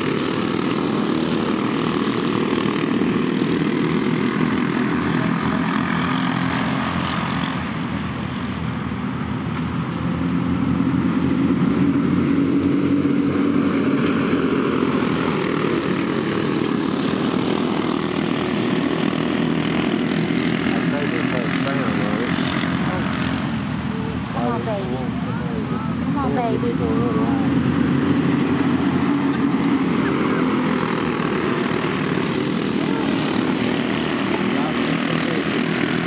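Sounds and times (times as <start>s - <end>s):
go-kart engines racing: 0.0s - 36.0s.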